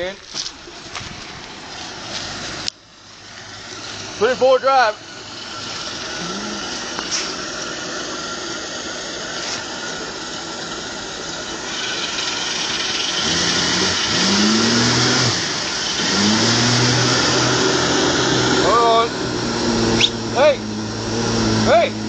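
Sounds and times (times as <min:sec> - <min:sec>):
truck engine revving: 0:00.6 - 0:22.0.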